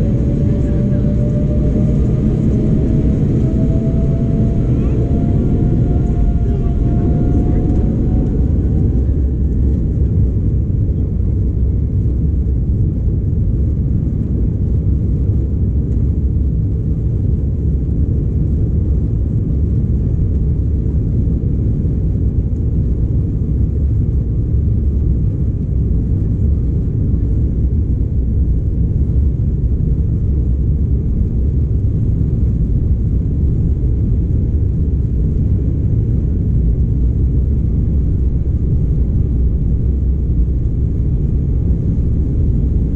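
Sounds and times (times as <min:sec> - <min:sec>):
jet engine low rumble: 0:00.0 - 0:42.9.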